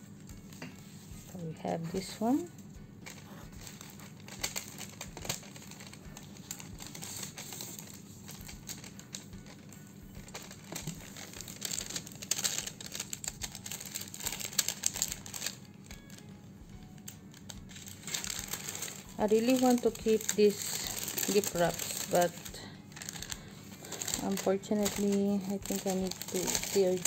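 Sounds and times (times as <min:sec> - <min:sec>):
wrapping paper crinkling: 0:00.0 - 0:27.0.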